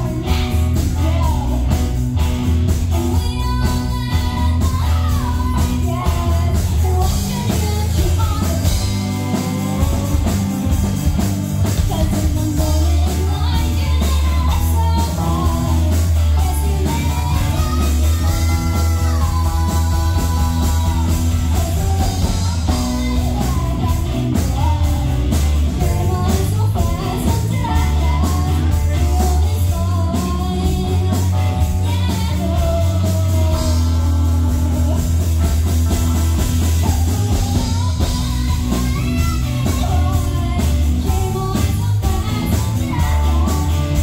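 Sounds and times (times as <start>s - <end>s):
bass guitar: 0.0s - 44.0s
drum kit: 0.0s - 44.0s
electric guitars: 0.0s - 44.0s
woman singing: 0.0s - 44.0s.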